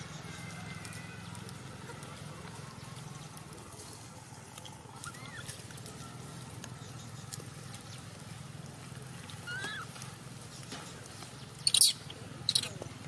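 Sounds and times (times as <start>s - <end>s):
rustling of dry leaves and twigs: 0.0s - 13.0s.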